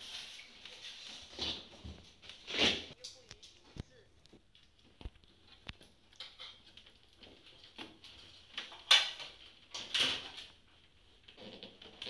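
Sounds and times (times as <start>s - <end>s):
scraping and rustling of wiring: 0.0s - 12.0s.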